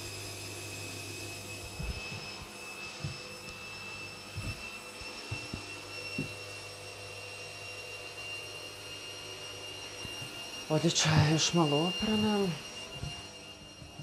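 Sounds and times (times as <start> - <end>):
washing machine whine and hum: 0.0 - 14.0.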